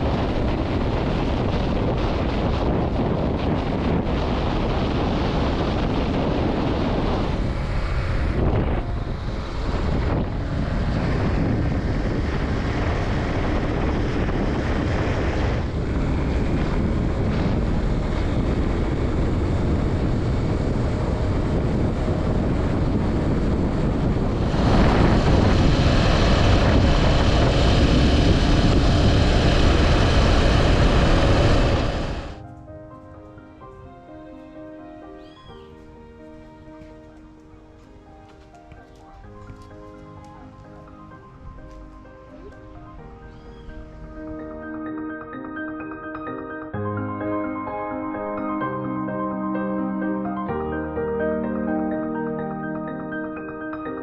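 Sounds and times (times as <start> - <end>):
wind rushing over microphone: 0.0 - 34.2, 35.7 - 54.0.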